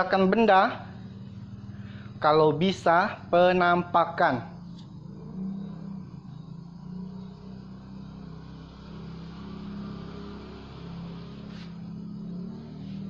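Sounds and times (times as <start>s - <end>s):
low mechanical hum: 0.1s - 13.0s.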